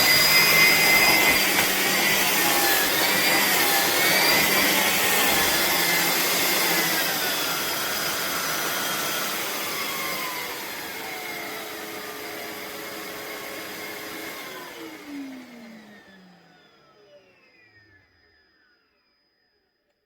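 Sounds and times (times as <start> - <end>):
vacuum cleaner motor whining: 0.0 - 19.8.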